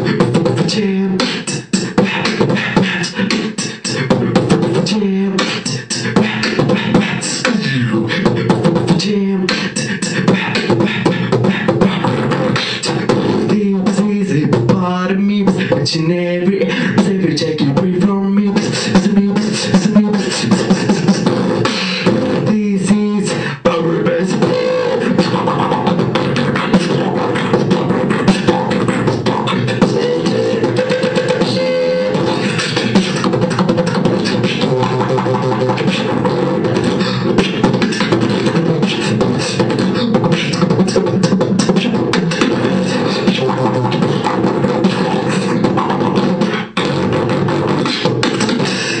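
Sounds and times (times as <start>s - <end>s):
person beatboxing: 0.0s - 49.0s.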